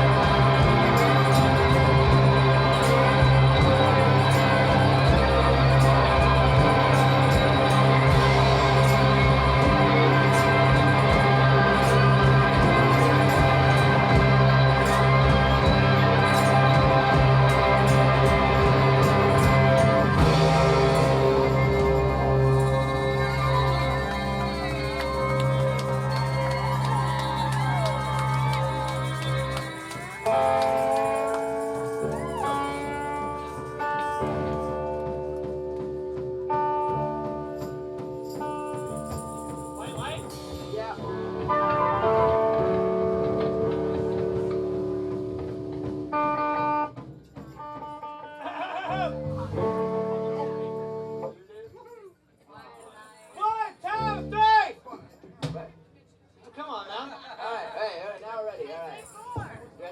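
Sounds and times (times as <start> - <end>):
rock band playing: 0.0 - 48.4, 49.0 - 51.3.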